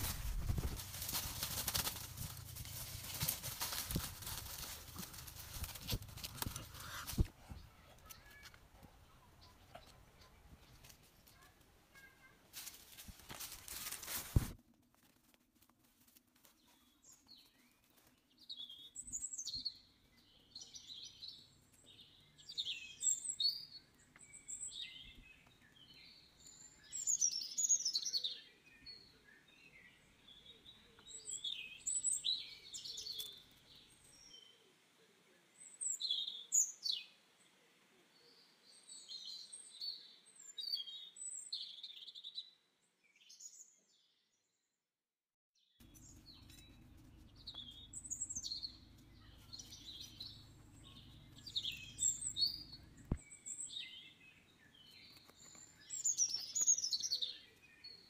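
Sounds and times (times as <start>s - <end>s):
forest birds chirping and trilling: 0.0s - 12.4s, 16.6s - 44.6s, 45.6s - 58.0s.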